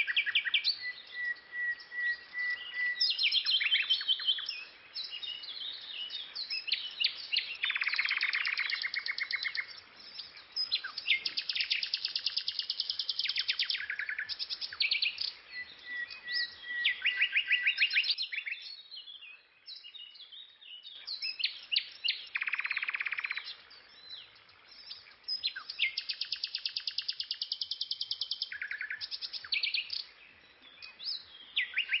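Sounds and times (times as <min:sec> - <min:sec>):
songbird trilling and chirping: 0:00.0 - 0:32.0.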